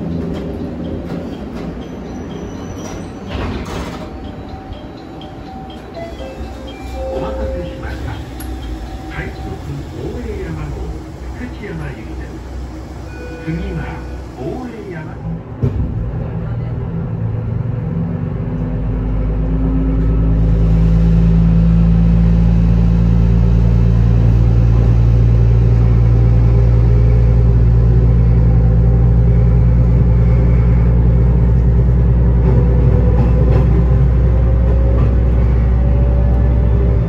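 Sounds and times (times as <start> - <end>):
diesel railcar engine rumble: 0.0 - 37.0.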